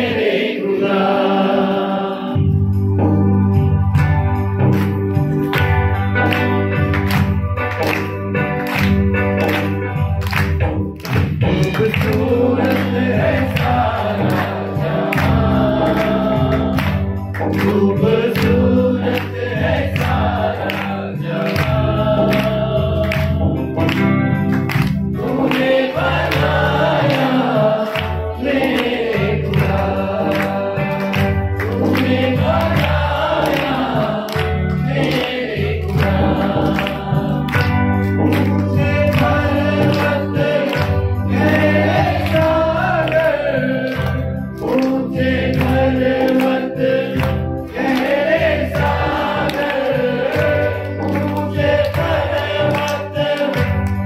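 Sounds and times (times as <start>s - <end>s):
men singing through microphones: 0.0s - 2.8s, 11.3s - 23.9s, 25.1s - 54.0s
keyboard with programmed beat: 2.3s - 54.0s.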